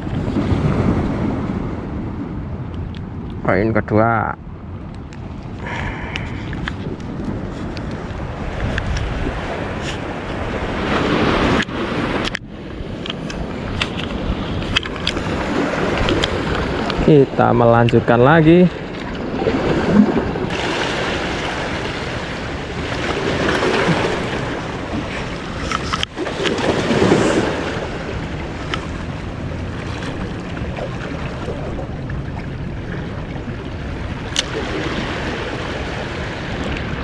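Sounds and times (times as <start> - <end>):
wind on microphone: 0.0 - 37.0
waves washing against rocks: 5.4 - 37.0.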